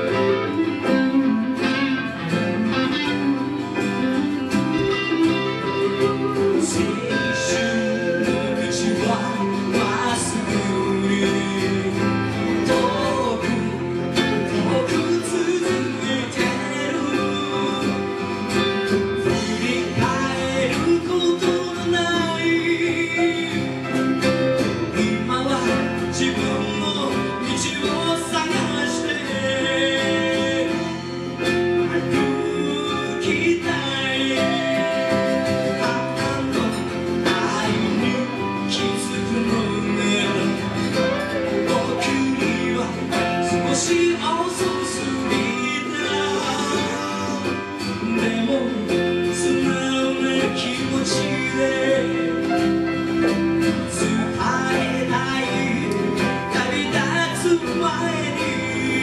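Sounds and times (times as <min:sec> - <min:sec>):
bass guitar: 0:00.0 - 0:59.0
electric guitar: 0:00.0 - 0:59.0
man singing: 0:00.0 - 0:59.0
strummed acoustic guitar: 0:00.0 - 0:59.0.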